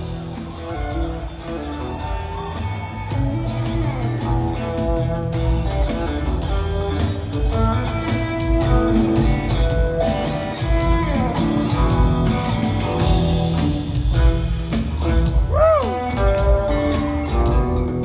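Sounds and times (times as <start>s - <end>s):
bass guitar: 0.0s - 18.0s
drum kit: 0.0s - 18.0s.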